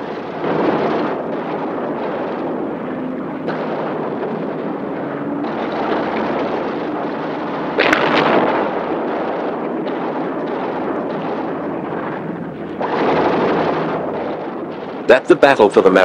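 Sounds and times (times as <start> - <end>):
explosions rumbling: 0.0 - 16.0
sharp loud blast: 0.0 - 16.0.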